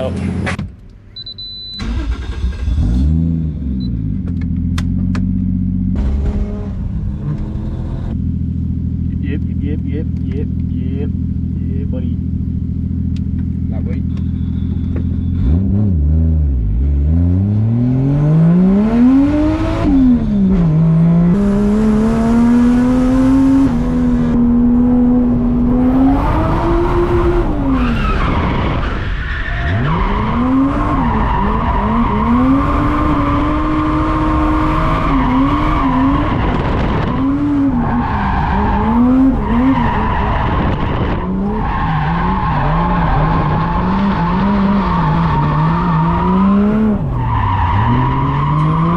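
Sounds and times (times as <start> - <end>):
car engine revving: 1.8 - 48.9.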